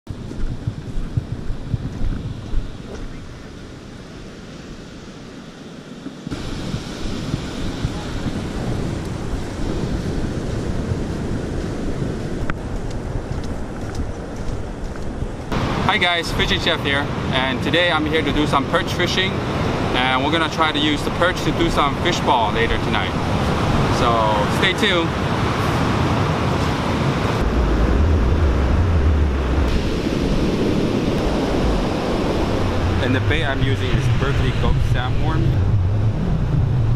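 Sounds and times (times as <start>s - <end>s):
wind rumbling on microphone: 0.0s - 36.9s
ocean surf breaking: 0.2s - 13.8s, 15.4s - 36.9s.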